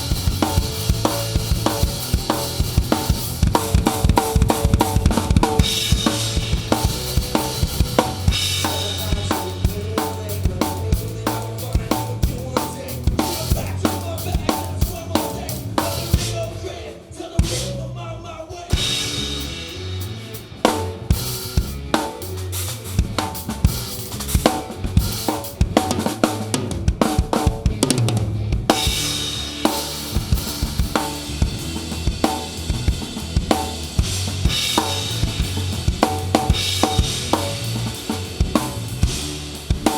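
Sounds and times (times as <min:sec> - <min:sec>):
drum kit beat: 0:00.0 - 0:16.6, 0:18.7 - 0:39.9
live rock band playing: 0:00.0 - 0:17.9, 0:18.7 - 0:39.9.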